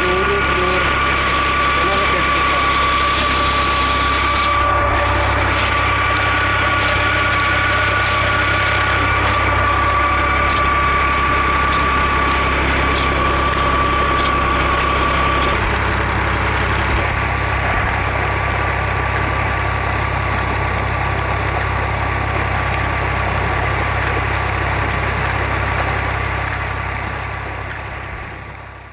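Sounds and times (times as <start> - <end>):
water gushing into tank: 0.0 - 28.8
diesel engine running: 0.0 - 28.9
high whine: 0.0 - 28.9.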